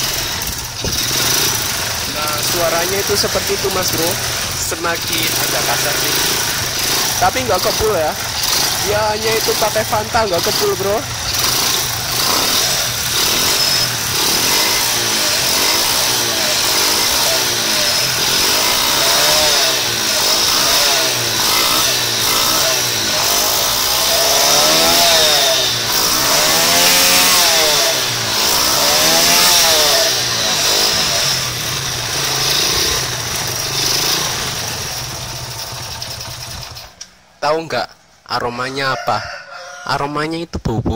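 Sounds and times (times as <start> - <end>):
motorcycle engine revving: 0.0 - 37.4.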